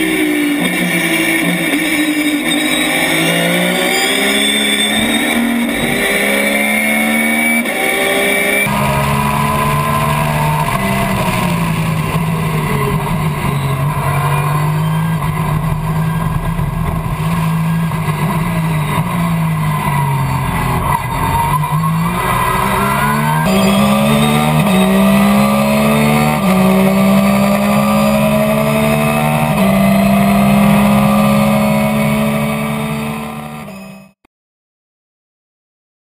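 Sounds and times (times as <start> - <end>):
race car engine accelerating: 0.0 - 34.1.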